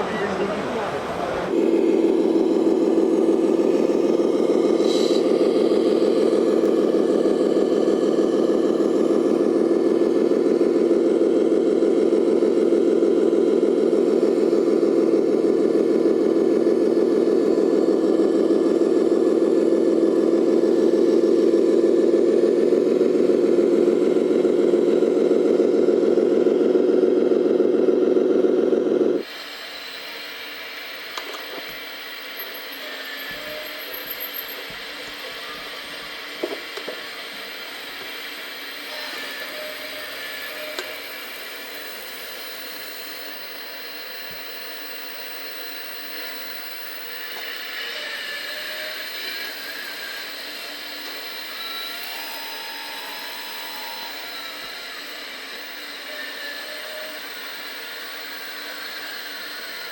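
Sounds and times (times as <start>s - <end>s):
rc model vehicle engine drone: 0.0s - 59.9s.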